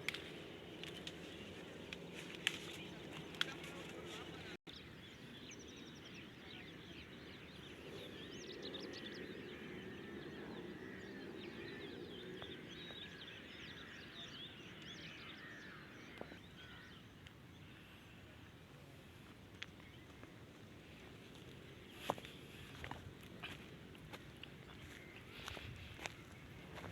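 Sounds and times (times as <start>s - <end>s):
chorus of birds chirping: 0.0s - 26.9s.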